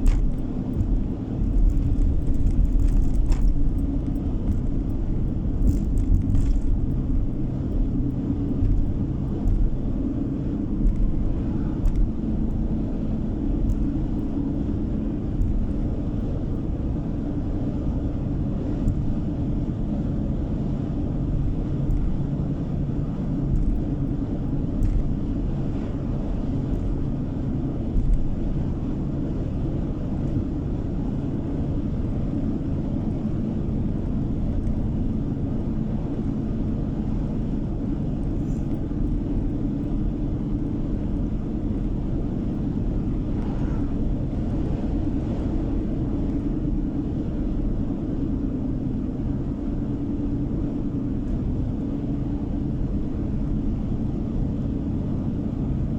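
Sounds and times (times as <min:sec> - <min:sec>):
car cabin road noise: 0:00.0 - 0:55.9.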